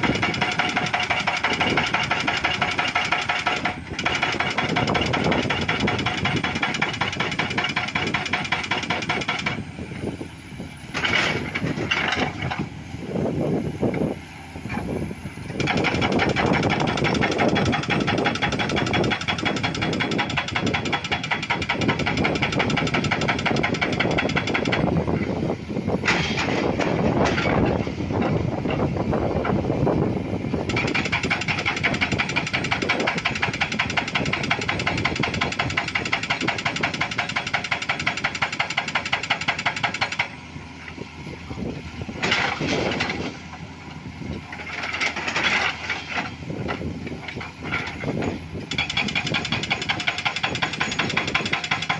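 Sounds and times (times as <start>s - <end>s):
hydraulic rock breaker hammering: 0.0s - 9.7s, 15.5s - 25.4s, 26.0s - 29.6s, 30.6s - 40.4s, 42.1s - 43.4s, 44.3s - 51.9s
engine running: 0.0s - 51.9s.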